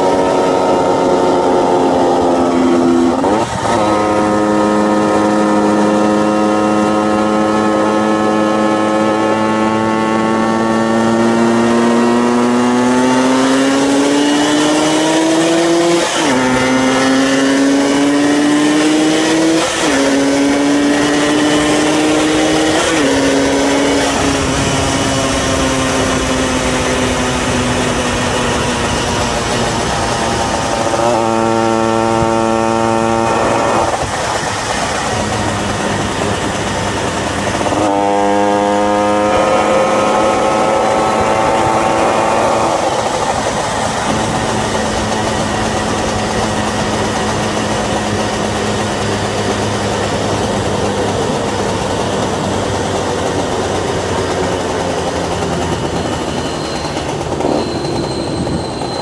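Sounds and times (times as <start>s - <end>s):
two-stroke motorcycle engine: 0.0s - 59.0s.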